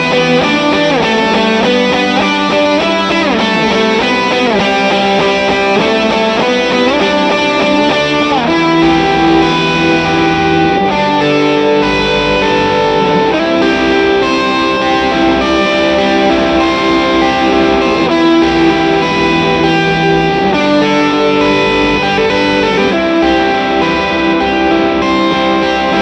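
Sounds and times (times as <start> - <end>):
overdriven electric guitar lead: 0.0 - 26.0.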